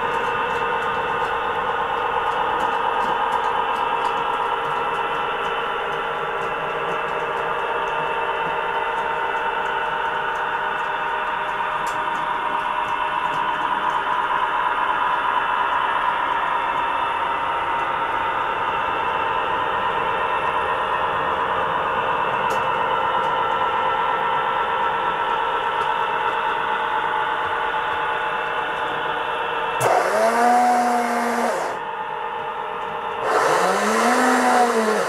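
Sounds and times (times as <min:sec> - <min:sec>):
model train diesel engine sound: 0:00.0 - 0:35.0.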